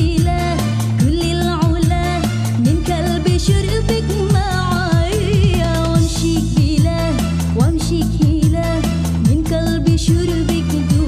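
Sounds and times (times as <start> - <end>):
loud dance backing music: 0.0 - 11.0.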